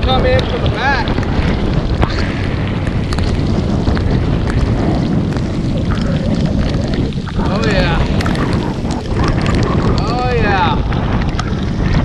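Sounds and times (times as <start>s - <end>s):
raindrops ticking on camera: 0.0s - 12.0s
wind buffeting microphone: 0.0s - 12.0s.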